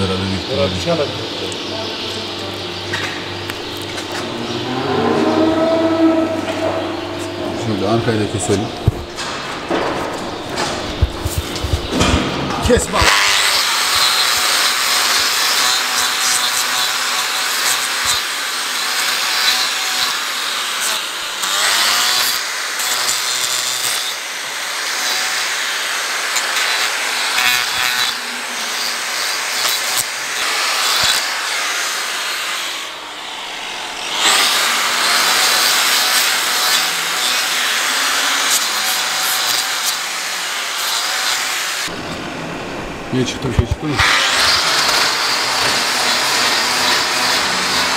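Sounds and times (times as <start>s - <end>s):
angle grinder grinding hoof: 0.0s - 42.2s, 42.9s - 47.9s.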